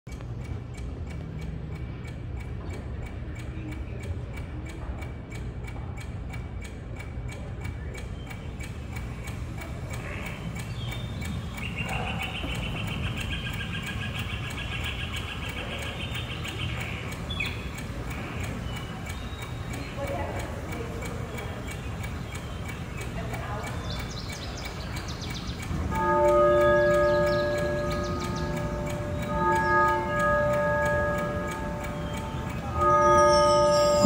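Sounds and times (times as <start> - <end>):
clock ticking: 0.0 - 34.0.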